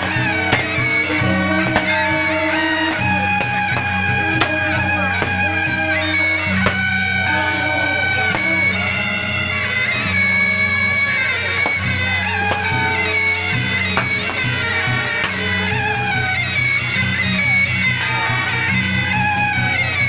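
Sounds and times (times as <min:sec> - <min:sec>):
loud music with steady bass: 0:00.0 - 0:20.0.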